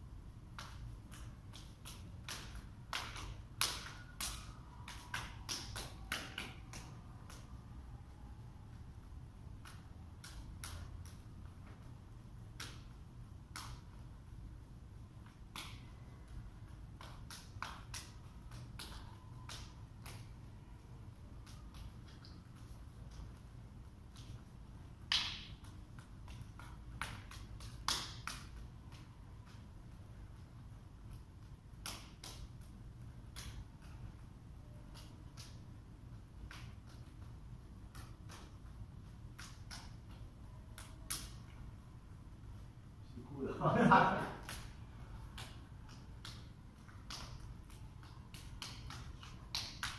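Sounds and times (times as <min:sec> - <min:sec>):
low room hum: 0:00.0 - 0:49.9
hands slapping forearms: 0:00.4 - 0:41.7, 0:43.6 - 0:49.9.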